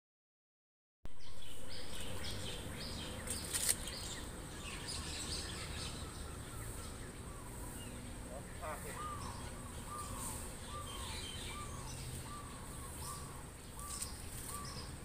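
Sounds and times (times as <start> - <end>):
small birds chirping: 1.1 - 15.0
steady low background noise: 1.1 - 15.0.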